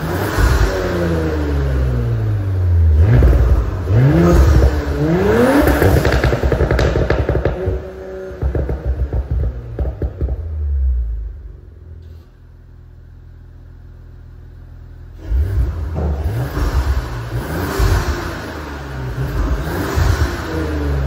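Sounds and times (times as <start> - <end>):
car engine revving and idling: 0.0 - 21.0.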